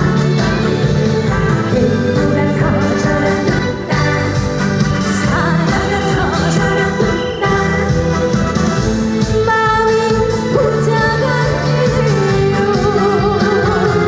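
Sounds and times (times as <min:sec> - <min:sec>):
loud backing music: 0:00.0 - 0:14.0
woman singing: 0:00.0 - 0:14.0.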